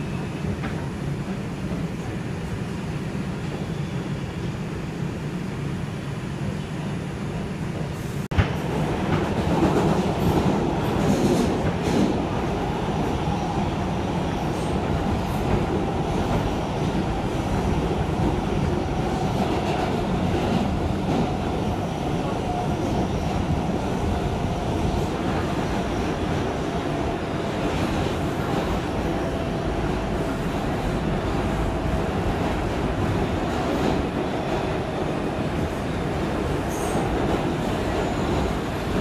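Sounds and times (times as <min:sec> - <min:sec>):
subway car rumble: 0:00.0 - 0:39.0.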